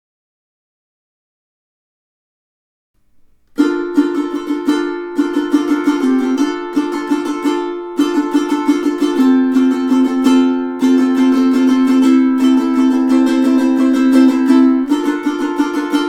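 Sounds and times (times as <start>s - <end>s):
ukulele chords strummed: 3.0s - 16.0s.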